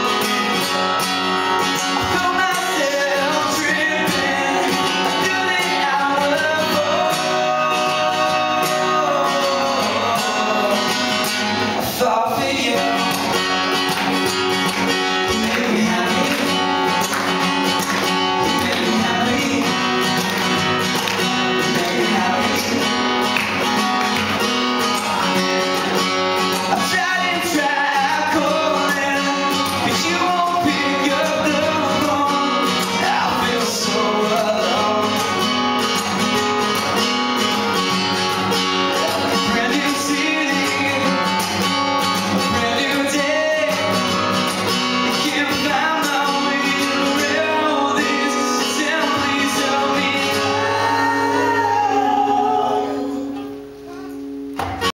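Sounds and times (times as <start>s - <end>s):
man singing into a microphone: 0.0s - 13.7s, 15.1s - 17.1s, 17.7s - 20.6s, 21.2s - 23.4s, 26.6s - 37.1s, 38.8s - 53.6s
acoustic guitar strumming: 0.0s - 54.9s.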